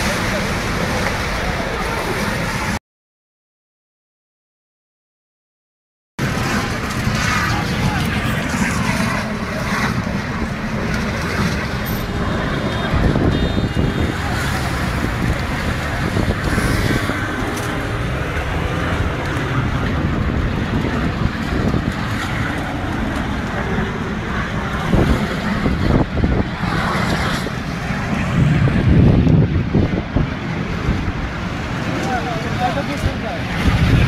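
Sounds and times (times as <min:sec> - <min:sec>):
car road noise: 0:00.0 - 0:02.8, 0:06.2 - 0:34.0
wind on microphone: 0:06.2 - 0:34.0.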